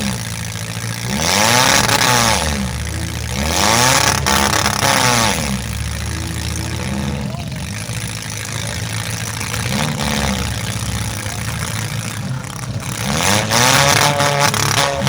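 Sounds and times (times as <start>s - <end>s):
car engines running and revving: 0.0s - 15.0s.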